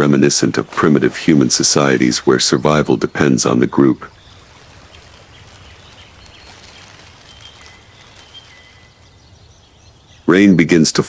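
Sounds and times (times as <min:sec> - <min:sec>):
light rain on foliage: 0:00.0 - 0:10.5
thin high-pitched calls: 0:00.3 - 0:10.2.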